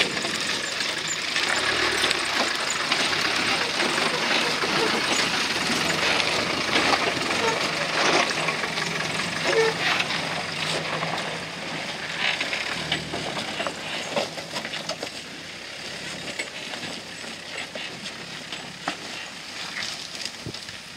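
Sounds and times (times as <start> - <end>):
engine running at low revs: 0.0 - 20.9
tyres crunching over stones: 0.0 - 20.9.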